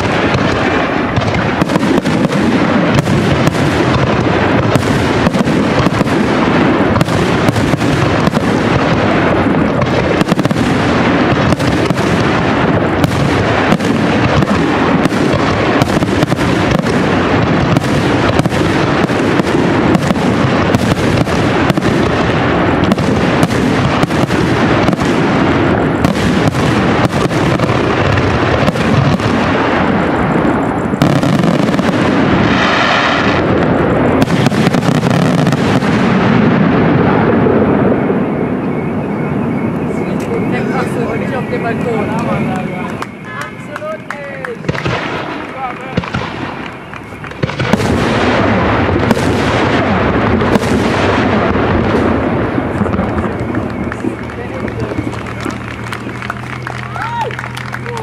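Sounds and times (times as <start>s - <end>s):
firework shells bursting: 0.0s - 58.0s.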